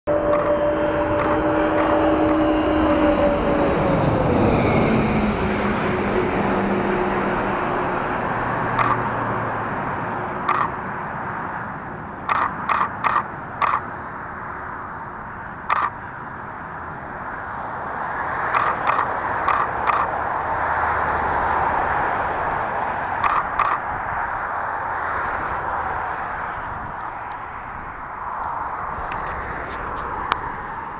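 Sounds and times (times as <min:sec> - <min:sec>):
jet aircraft passing overhead: 0:00.0 - 0:30.9.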